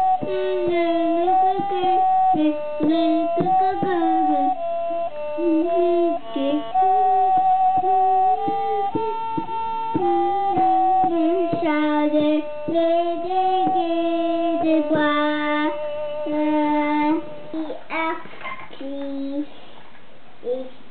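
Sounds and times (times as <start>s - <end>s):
boy singing: 0.0s - 4.7s, 5.4s - 19.6s, 20.4s - 20.9s.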